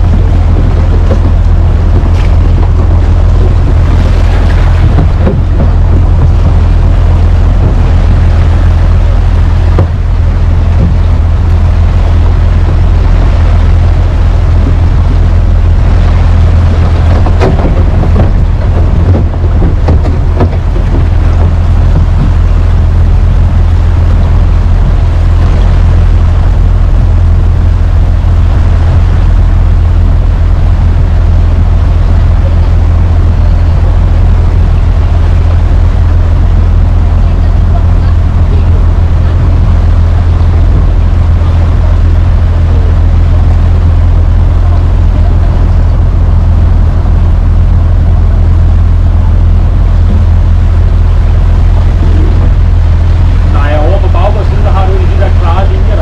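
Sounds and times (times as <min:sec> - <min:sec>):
boat engine droning: 0:00.0 - 0:56.0
wind noise on microphone: 0:00.0 - 0:56.0.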